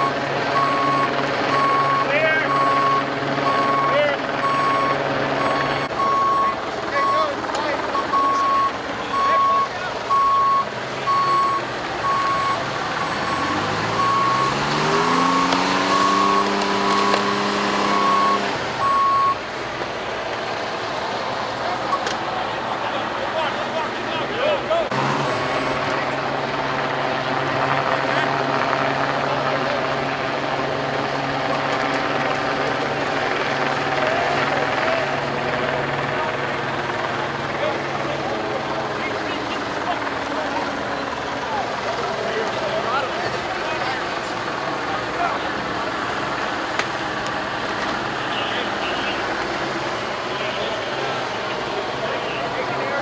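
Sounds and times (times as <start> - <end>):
engine revving: 0.0 - 19.5, 24.8 - 53.0
truck reversing alarm beeping: 0.0 - 24.2, 24.9 - 53.0.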